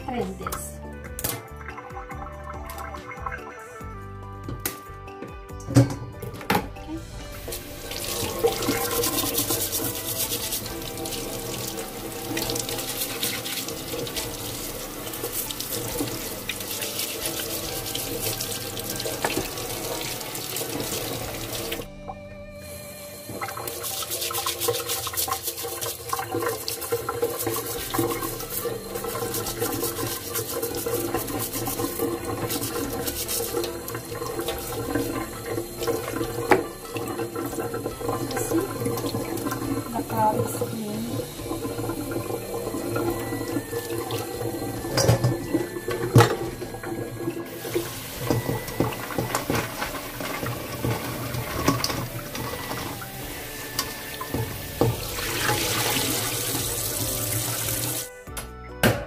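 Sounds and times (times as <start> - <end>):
tap running into metal sink: 7.4 - 21.9, 23.3 - 58.1
water splashing over shells: 7.4 - 21.9, 23.5 - 58.1.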